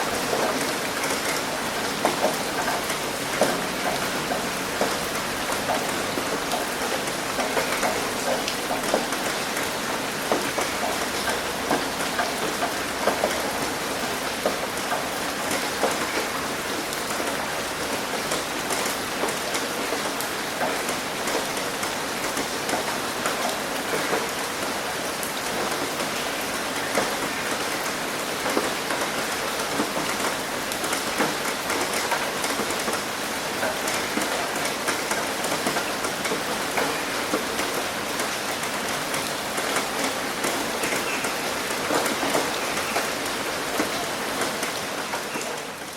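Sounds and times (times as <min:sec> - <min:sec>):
raindrops pattering close by: 0:00.0 - 0:45.9
steady rain hiss: 0:00.0 - 0:45.9.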